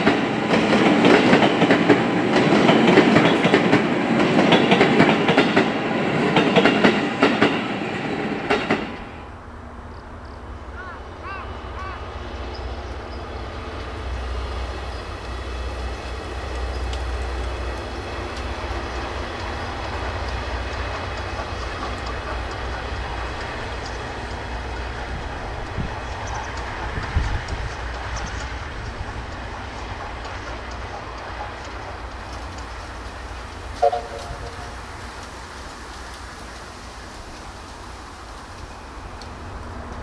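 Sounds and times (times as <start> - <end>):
steam train rumble: 0.0 - 40.0
wheels clattering on rails: 0.0 - 40.0.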